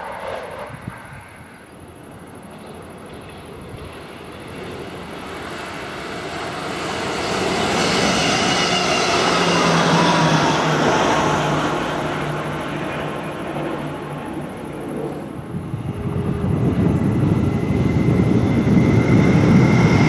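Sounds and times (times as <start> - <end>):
train rumble passing: 0.0 - 20.0.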